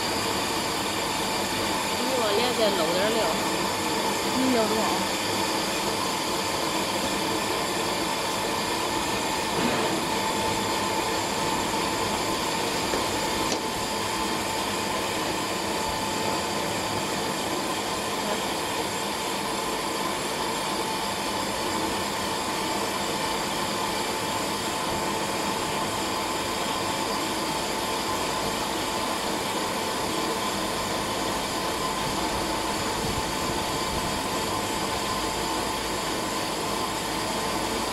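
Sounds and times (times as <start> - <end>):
extruder machine running: 0.0 - 37.9
motor whine: 0.0 - 37.9.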